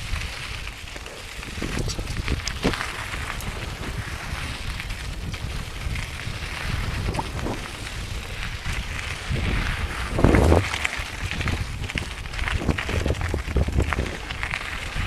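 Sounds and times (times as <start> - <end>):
bike clicks and jolt: 0.0 - 15.0
mountain bike rolling over gravel: 0.0 - 15.0
wind rumbling on microphone: 0.0 - 15.0.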